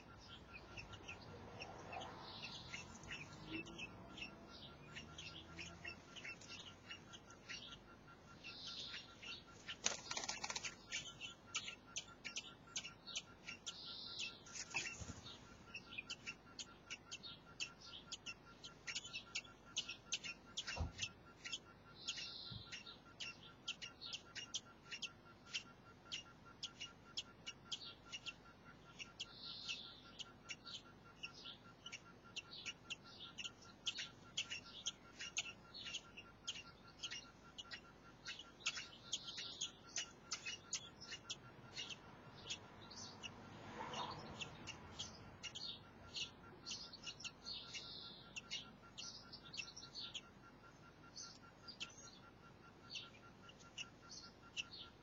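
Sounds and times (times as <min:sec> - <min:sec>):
nestlings chirping: 0:00.0 - 0:55.0.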